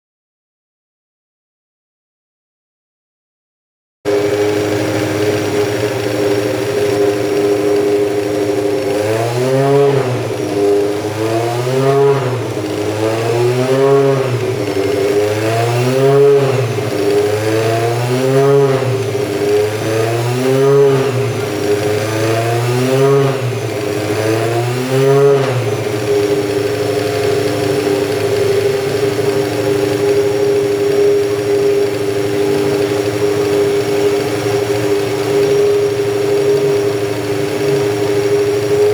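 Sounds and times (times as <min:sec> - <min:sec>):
race car engine idling: 0:04.1 - 0:22.6, 0:23.3 - 0:24.4, 0:25.6 - 0:38.9
engine revs blipped: 0:04.1 - 0:38.9.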